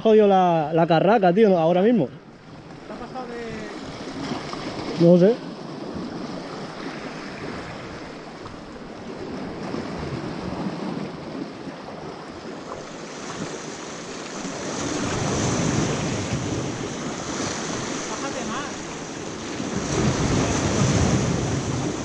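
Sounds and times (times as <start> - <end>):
waves washing on rocks: 2.7 - 22.0
wind buffeting microphone: 3.4 - 22.0.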